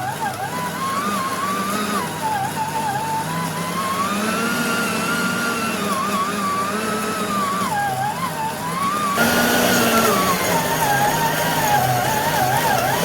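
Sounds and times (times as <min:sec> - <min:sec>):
electric meat grinder whining: 0:00.0 - 0:13.0.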